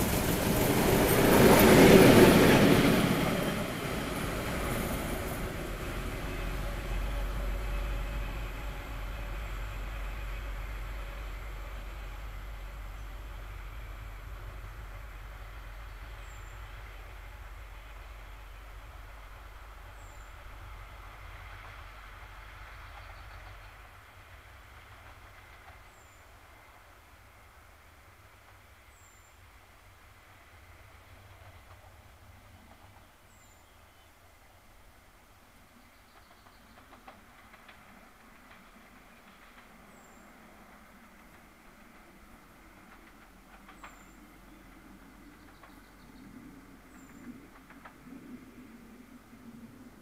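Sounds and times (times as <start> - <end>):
diesel locomotive passing: 0.0 - 50.0
train wheels on rails: 0.0 - 50.0.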